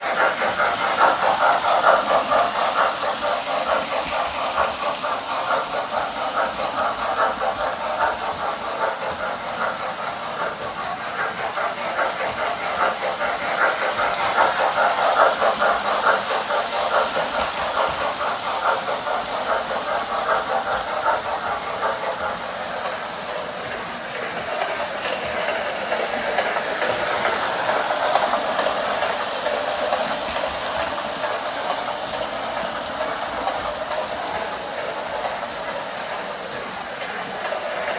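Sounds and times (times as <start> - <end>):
toy train clattering on track: 0.0 - 37.9.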